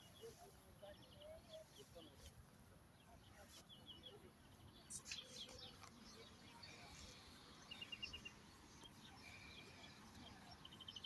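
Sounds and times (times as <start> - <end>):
birdsong chirps: 0.0 - 11.0.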